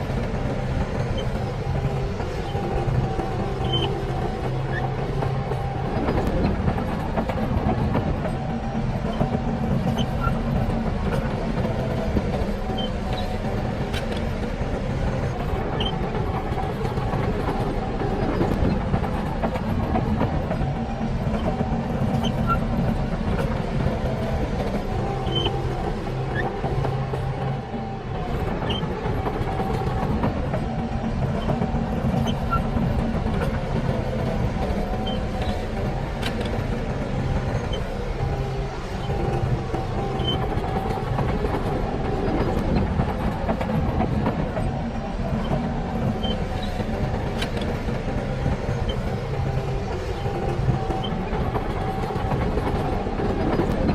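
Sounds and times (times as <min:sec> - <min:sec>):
bulldozer diesel engine under load: 0:00.0 - 0:53.9
metallic clicks and squeaks of tracks: 0:00.0 - 0:53.9.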